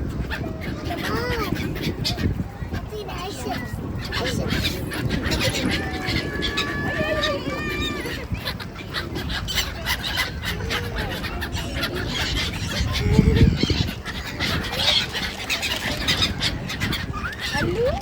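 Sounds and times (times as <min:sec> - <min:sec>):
gulls calling: 0:00.0 - 0:18.0.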